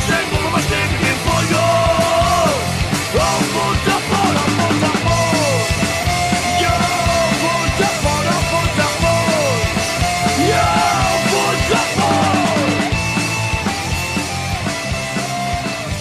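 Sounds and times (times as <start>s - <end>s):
live punk rock band: 0.0s - 16.0s
sliding lead guitar line: 0.0s - 16.0s.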